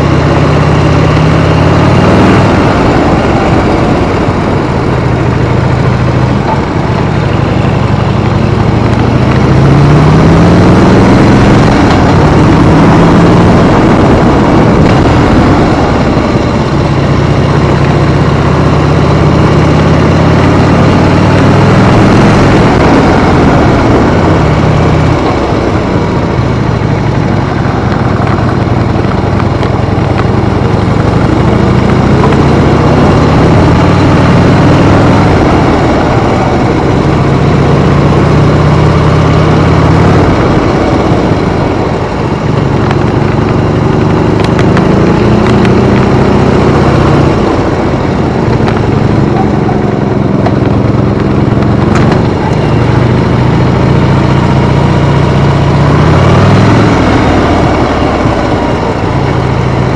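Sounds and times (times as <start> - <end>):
motorcycle engine accelerating: 0.0 - 59.9
steady rushing noise: 0.0 - 59.9.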